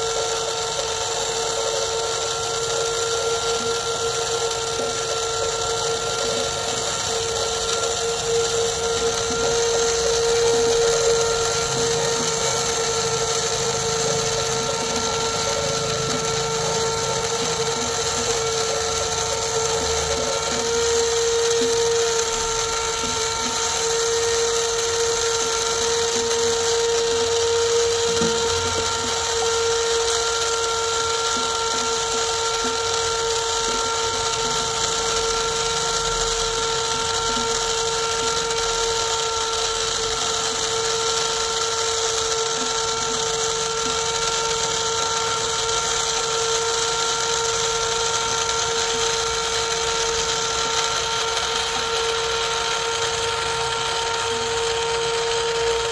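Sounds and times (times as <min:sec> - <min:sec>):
small electric motor whine: 0:00.0 - 0:55.9.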